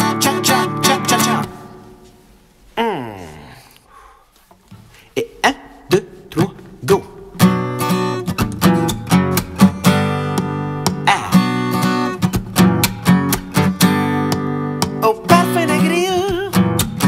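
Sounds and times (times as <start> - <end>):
acoustic guitar strumming: 0.0 - 2.3, 5.4 - 17.0.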